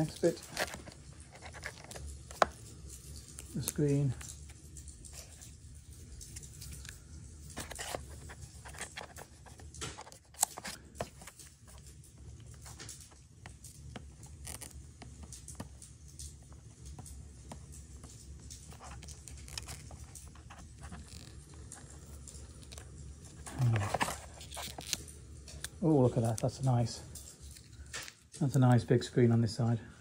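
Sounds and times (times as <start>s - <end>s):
plastic film clicking and rustling: 0.0s - 29.0s.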